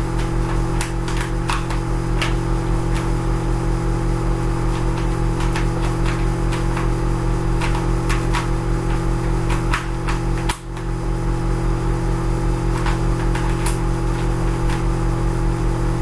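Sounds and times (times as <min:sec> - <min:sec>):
loud steady low hum: 0:00.0 - 0:16.0.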